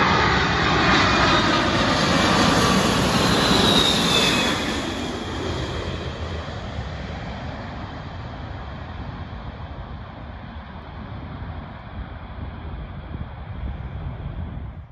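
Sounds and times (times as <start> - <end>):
jet airliner engine roar: 0.0 - 14.9
wind buffeting microphone: 1.2 - 14.9.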